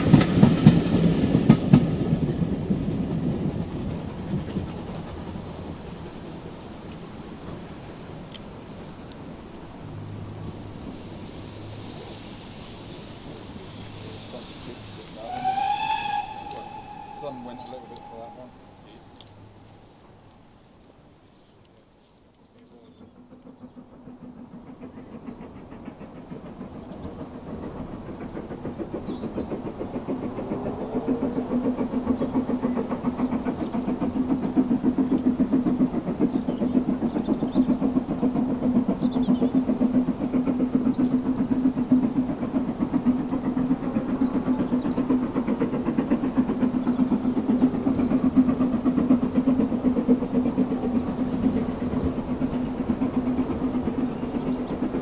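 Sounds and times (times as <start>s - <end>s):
rhythmic train clatter: 0.0s - 55.0s
steam train passing: 0.0s - 55.0s.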